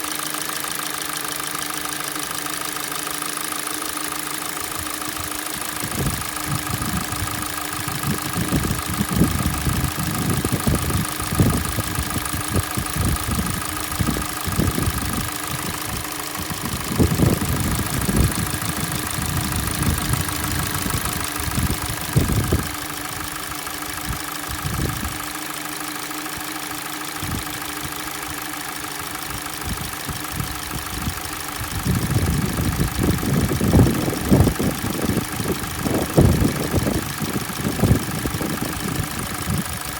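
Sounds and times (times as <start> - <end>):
car engine idling with whine: 0.0 - 39.9
irregular engine knocking: 0.0 - 39.9.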